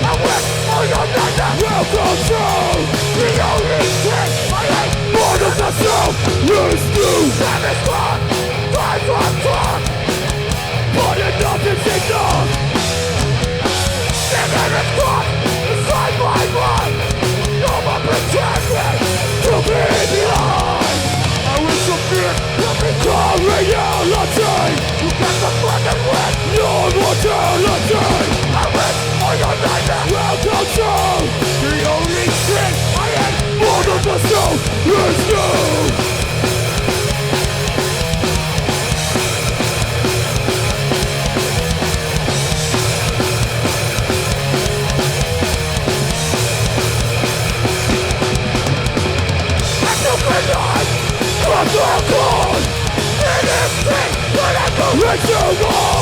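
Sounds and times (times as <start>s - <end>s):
punk band playing live: 0.0s - 56.0s.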